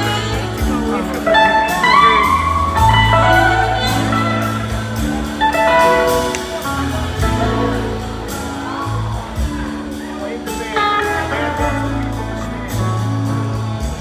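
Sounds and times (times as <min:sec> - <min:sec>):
blues-rock band playing: 0:00.0 - 0:14.0
lead guitar line: 0:00.0 - 0:14.0.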